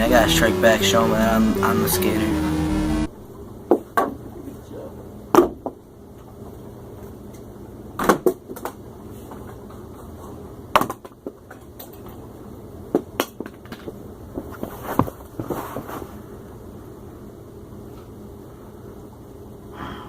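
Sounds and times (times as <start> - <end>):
low steady background noise: 3.0 - 20.0.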